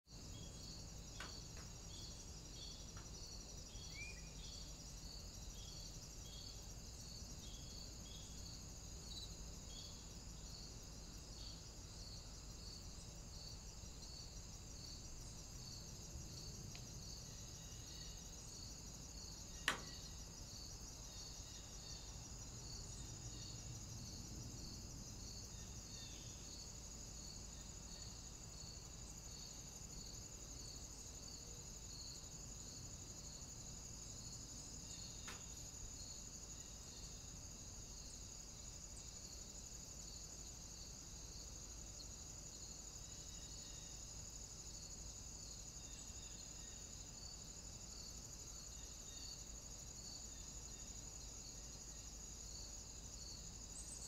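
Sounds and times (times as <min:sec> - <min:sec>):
crickets and insects chirping: 0:00.0 - 0:54.0.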